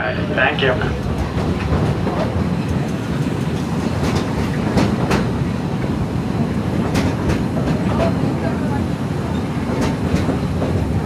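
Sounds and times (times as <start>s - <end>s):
train rumbling on track: 0.0s - 11.0s
wheels clacking on rail joints: 0.9s - 8.3s, 9.4s - 11.0s.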